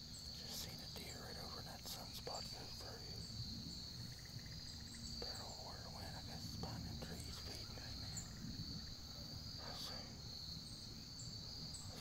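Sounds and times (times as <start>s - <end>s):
crickets trilling: 0.0s - 12.0s
low background rumble: 0.0s - 12.0s.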